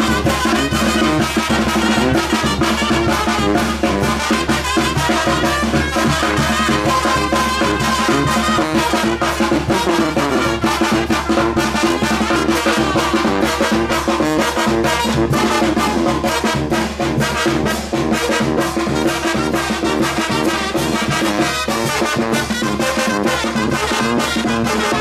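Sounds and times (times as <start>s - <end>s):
brass horns: 0.0s - 25.0s
drums keeping a steady beat: 0.0s - 25.0s.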